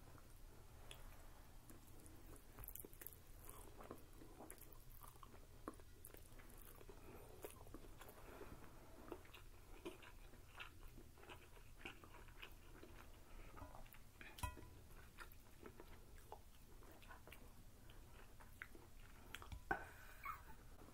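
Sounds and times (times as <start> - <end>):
faint low hum: 0.0 - 20.9
people chewing: 0.0 - 20.9.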